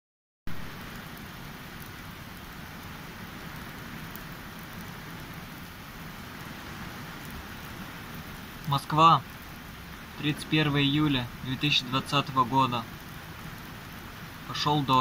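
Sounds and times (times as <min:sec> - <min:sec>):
heavy rain: 0:00.5 - 0:15.0.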